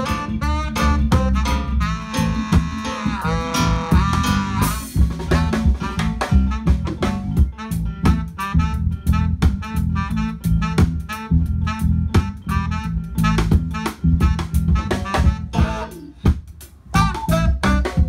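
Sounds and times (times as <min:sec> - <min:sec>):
bass: 0:00.0 - 0:18.0
drum kit beat: 0:00.0 - 0:18.0
guitar: 0:00.0 - 0:18.0
saxophone melody: 0:00.0 - 0:18.0.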